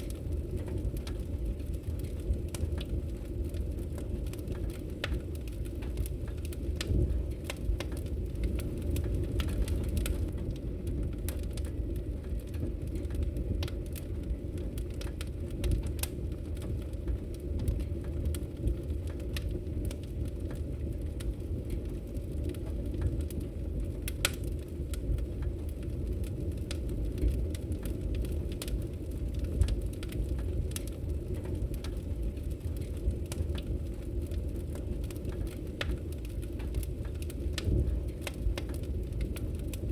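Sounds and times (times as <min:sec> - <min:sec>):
fire crackling and popping: 0:00.0 - 0:39.9
logs burning in fireplace: 0:00.0 - 0:39.9.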